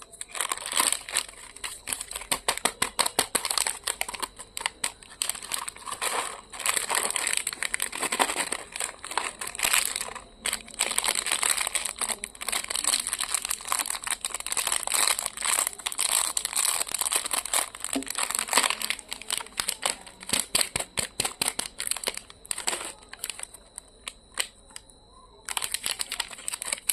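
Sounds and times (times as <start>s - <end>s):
plastic wrappers crinkling: 0.0s - 26.9s.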